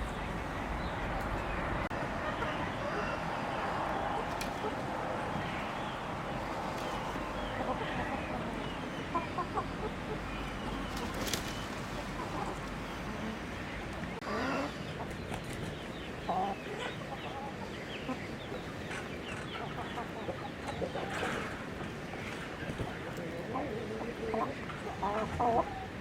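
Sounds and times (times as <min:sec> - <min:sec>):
chickens clucking and calling: 0:00.0 - 0:26.0.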